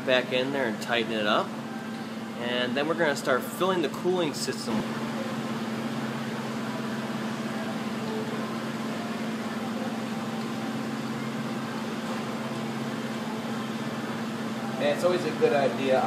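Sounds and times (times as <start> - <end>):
ventilation fan humming: 0.0 - 16.0.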